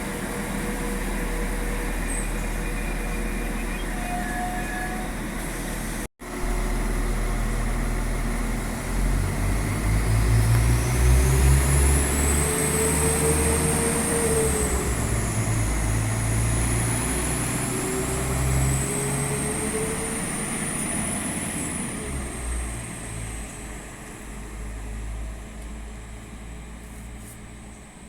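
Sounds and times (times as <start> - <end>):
high whine of train: 0.0 - 28.0.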